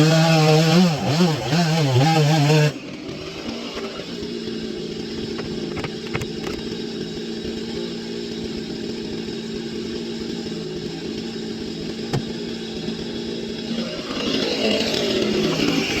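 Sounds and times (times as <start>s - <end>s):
chainsaw engine running: 0.0s - 16.0s.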